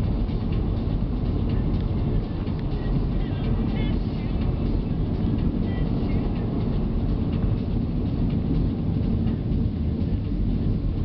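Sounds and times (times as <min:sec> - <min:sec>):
vehicle rumbling at speed: 0:00.0 - 0:11.0.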